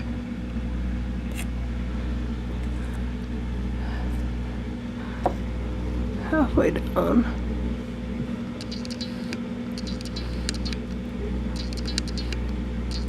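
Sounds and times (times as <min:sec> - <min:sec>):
appliance motor humming: 0:00.0 - 0:13.0.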